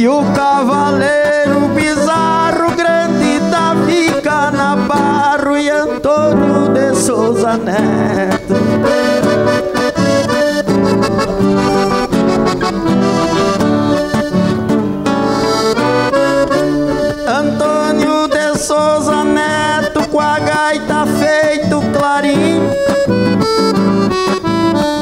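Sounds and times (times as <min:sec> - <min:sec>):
accordion playing: 0:00.0 - 0:25.0.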